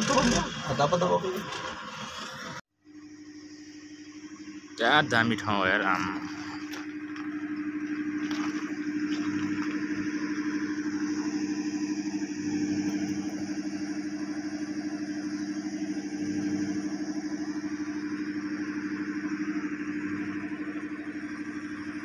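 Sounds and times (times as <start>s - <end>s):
boat engine running: 3.2s - 22.0s.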